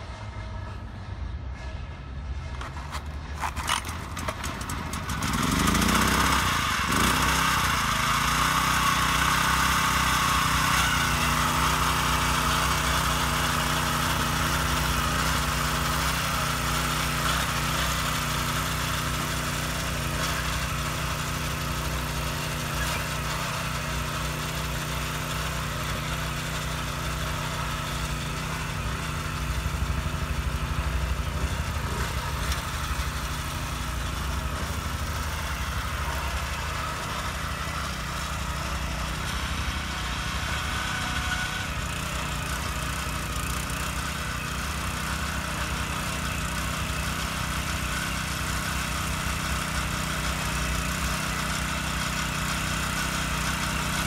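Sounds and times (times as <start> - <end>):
small tiller engine running: 2.5 - 54.0
tines digging through soil: 2.5 - 54.0.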